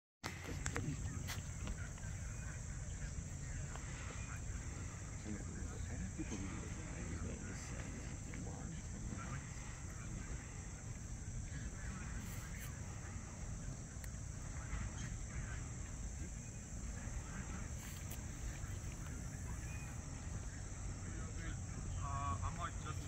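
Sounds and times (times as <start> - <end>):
distant crowd chatter: 0.2 - 23.0
insects droning in trees: 0.2 - 23.0.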